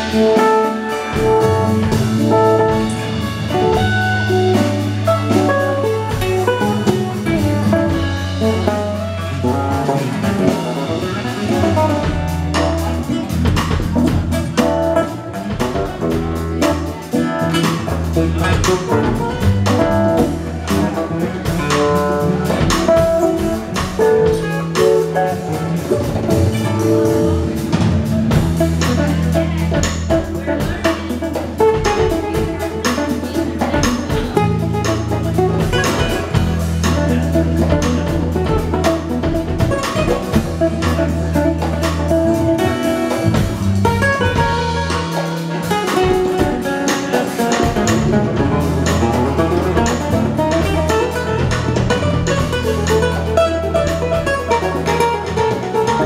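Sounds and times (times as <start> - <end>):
acoustic guitars: 0.0 - 56.0
conga drums: 0.0 - 56.0
electric bass: 0.0 - 56.0.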